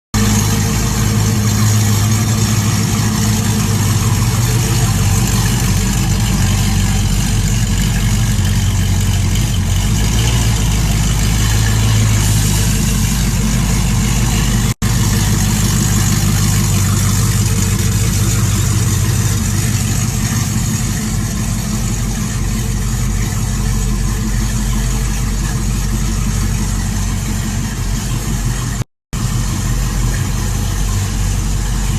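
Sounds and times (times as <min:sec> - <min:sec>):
pickup truck engine idling: 0:00.2 - 0:31.9.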